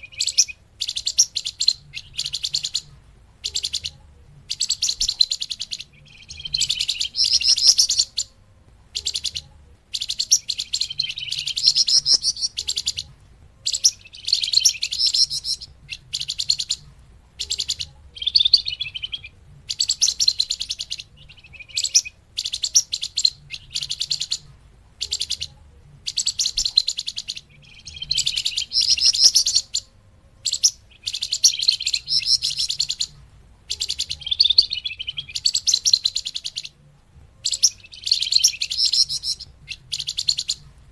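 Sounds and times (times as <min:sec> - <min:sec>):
bird chattering chirps: 0:00.0 - 0:36.8, 0:37.4 - 0:40.6.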